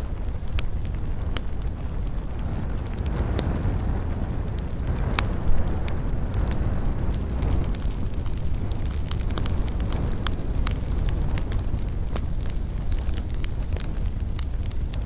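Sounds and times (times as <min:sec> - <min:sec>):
fire crackles and pops: 0:00.0 - 0:15.0
wood fire roaring: 0:00.0 - 0:15.0.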